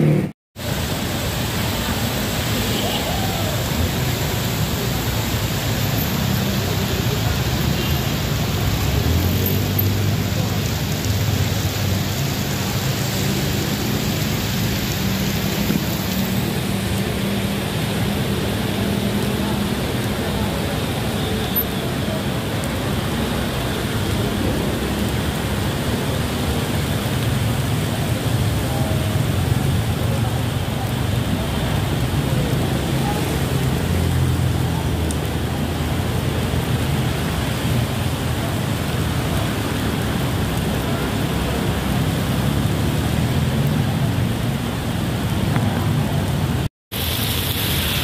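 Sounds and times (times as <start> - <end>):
car and motorcycle engines: 0.0 - 48.0
heavy rain pouring: 0.0 - 48.0.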